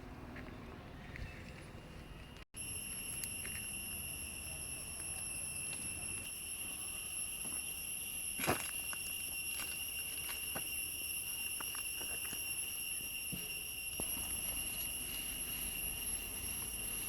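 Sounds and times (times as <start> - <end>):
insects trilling: 2.6 - 17.0.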